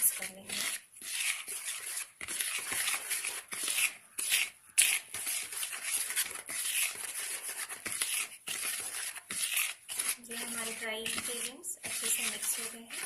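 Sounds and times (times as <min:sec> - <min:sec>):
utensil scraping powder in bowl: 0:00.0 - 0:13.0.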